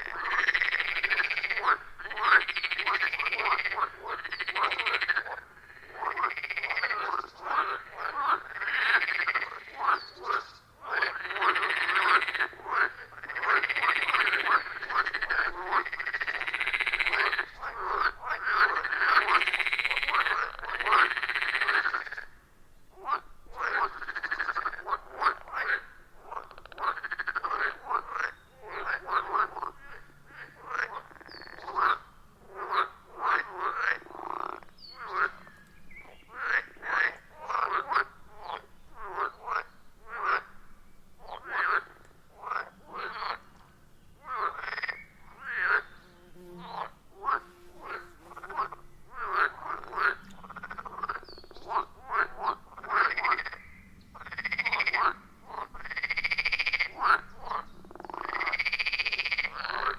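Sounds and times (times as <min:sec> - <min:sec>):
frogs croaking in chorus: 0:00.0 - 0:46.0, 0:46.6 - 0:59.9.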